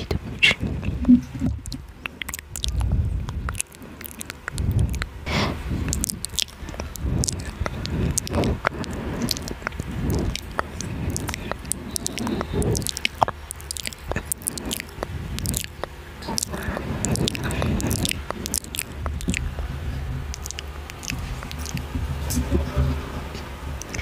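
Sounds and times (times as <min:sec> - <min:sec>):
wet mouth clicks and lip smacks: 0:00.4 - 0:05.2, 0:05.8 - 0:22.0, 0:23.8 - 0:24.0.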